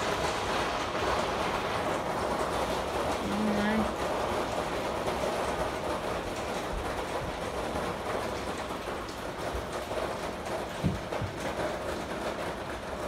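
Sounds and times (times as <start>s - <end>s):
hail and rain on wooden deck: 0.0s - 13.0s.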